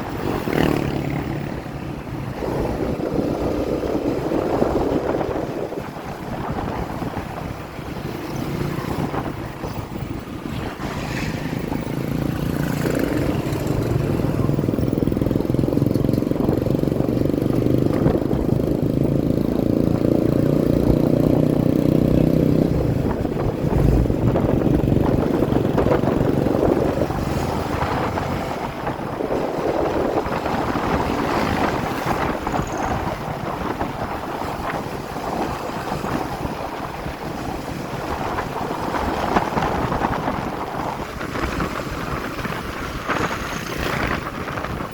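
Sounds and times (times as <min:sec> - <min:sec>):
motorcycle engine running: 0:00.0 - 0:05.6, 0:11.4 - 0:44.9
road rumble: 0:00.0 - 0:44.9
wind buffeting microphone: 0:00.0 - 0:44.9.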